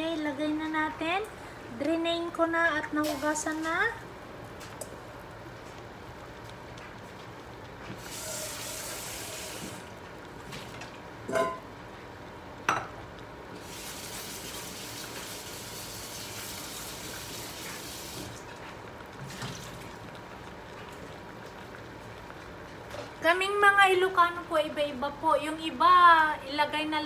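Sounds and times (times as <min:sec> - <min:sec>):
broth boiling in a saucepan: 0:00.0 - 0:27.0.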